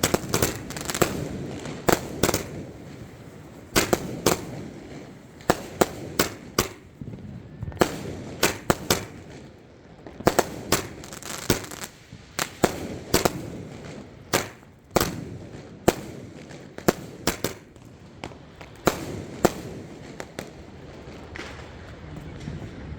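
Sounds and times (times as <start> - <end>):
firework cake sharp bangs: 0.0 - 22.5.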